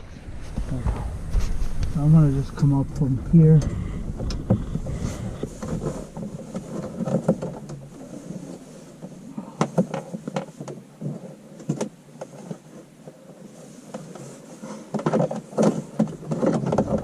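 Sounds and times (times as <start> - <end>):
wire rustling behind plastic panels: 0.0 - 17.0.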